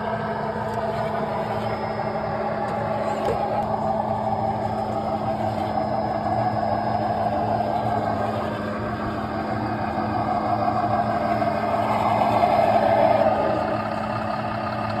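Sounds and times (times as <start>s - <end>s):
toy truck motor whirring: 0.0s - 15.0s.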